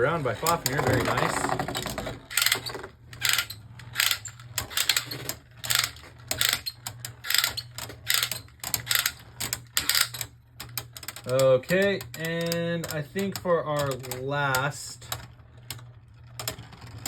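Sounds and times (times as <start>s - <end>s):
steady low hum: 0.0s - 17.0s
plastic ratcheting: 0.2s - 17.0s.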